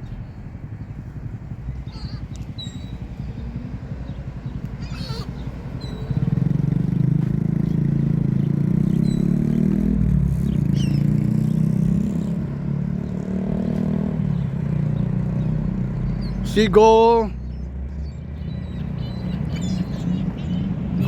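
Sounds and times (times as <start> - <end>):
high bird calls: 0.0 - 21.0
motor engine running: 0.0 - 21.0.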